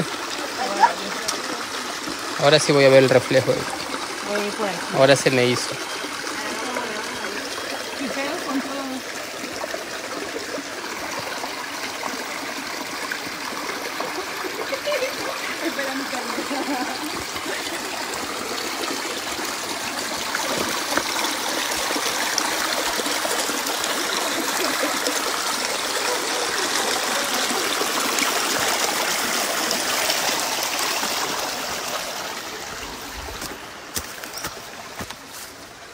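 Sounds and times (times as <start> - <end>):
stream running over stones: 0.0 - 35.9.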